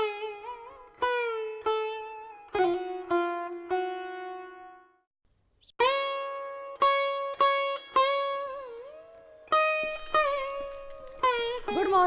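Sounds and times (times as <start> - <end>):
plucked string instrument notes: 0.0 - 5.0, 5.8 - 12.0.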